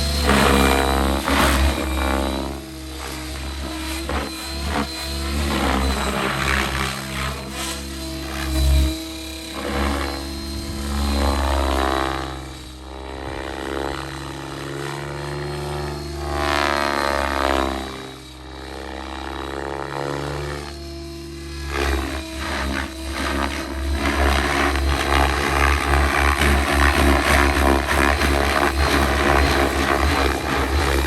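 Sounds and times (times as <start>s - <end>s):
electric motor whine: 0.0s - 31.0s
helicopter rotor blades chopping: 0.0s - 31.0s.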